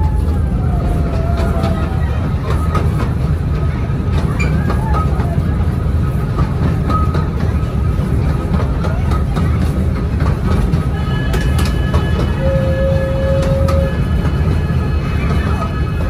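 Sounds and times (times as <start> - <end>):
ride train rumbling on track: 0.0 - 16.0
wheels clicking over rails: 0.0 - 16.0.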